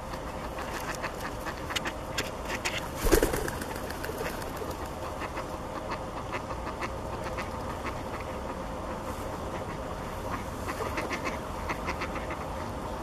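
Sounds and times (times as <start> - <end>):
ducks quacking: 0.0 - 12.8.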